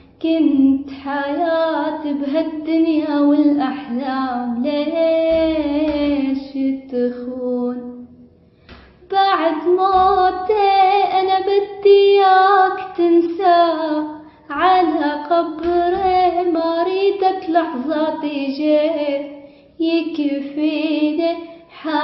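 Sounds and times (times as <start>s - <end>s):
girl singing unaccompanied: 0.2s - 8.1s, 9.0s - 22.0s.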